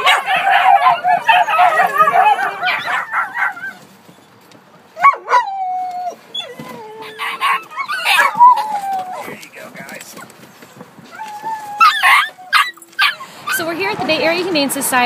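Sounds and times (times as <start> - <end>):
lower dog whine: 0.0 - 4.4, 5.0 - 13.6
dog crying and whining: 0.0 - 9.4, 10.1 - 13.7
dogs yipping and barking: 0.0 - 9.4, 10.0 - 14.1.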